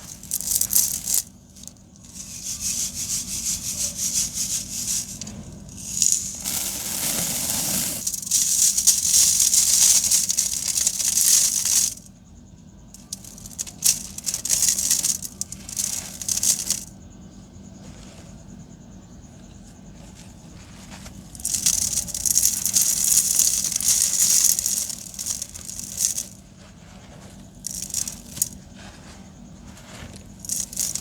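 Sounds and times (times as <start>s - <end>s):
sand-cement chunks crumbling: 0.0s - 12.1s, 13.0s - 16.9s, 20.5s - 31.0s.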